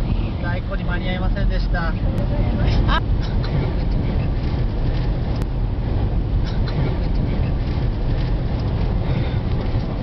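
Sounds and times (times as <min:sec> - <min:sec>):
vehicle road and engine noise: 0:00.0 - 0:10.0
wind rumbling on microphone: 0:00.0 - 0:10.0.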